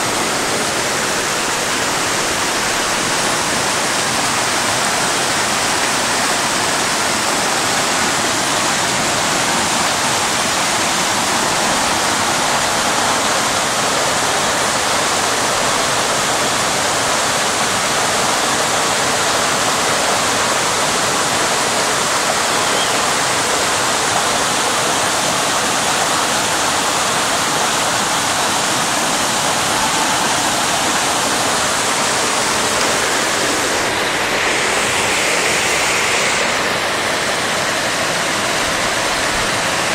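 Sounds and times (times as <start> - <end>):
rainwater rushing: 0.0 - 39.9.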